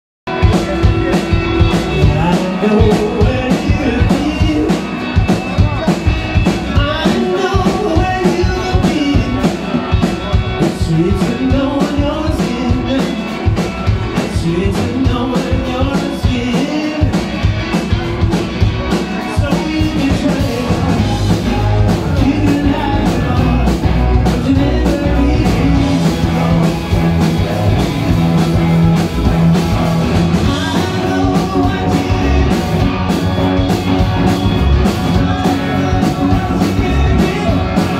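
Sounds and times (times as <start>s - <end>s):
bass guitar: 0.3s - 37.9s
drum kit beat: 0.3s - 37.9s
electric guitars: 0.3s - 37.9s.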